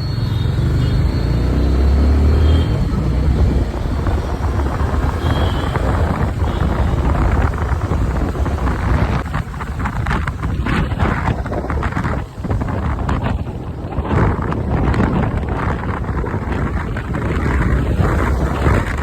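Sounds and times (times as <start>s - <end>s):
motorbike engine rumble: 0.0s - 19.0s
wind buffeting microphone: 2.6s - 19.0s.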